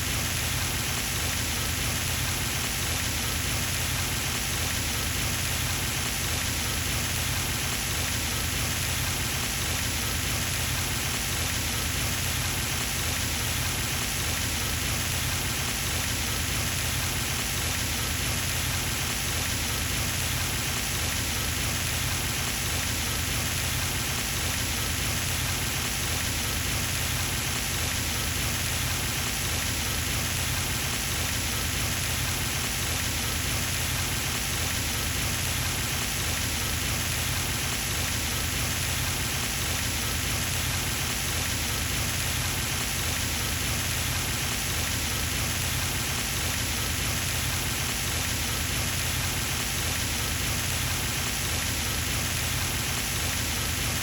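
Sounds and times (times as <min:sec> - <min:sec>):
fountain spray splashing on water: 0:00.1 - 0:54.0.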